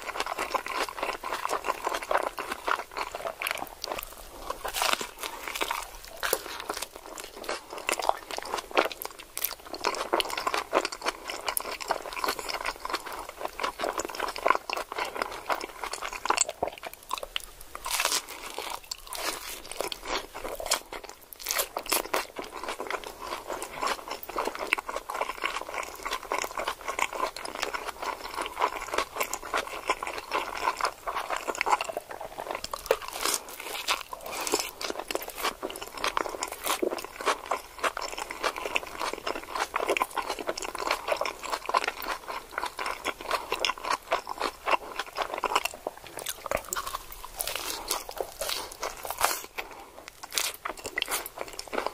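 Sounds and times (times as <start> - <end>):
person chewing crunchy taco: 0.0 - 51.9.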